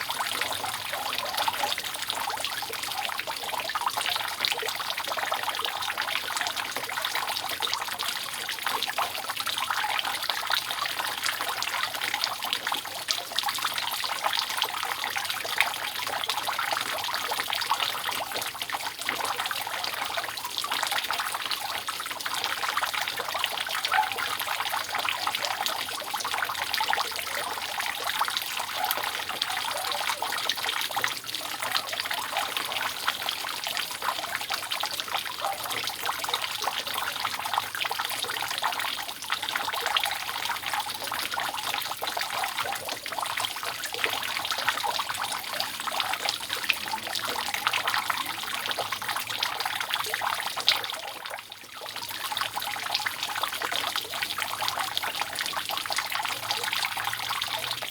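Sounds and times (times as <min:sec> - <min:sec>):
water dripping off a roof: 0:00.0 - 0:57.9.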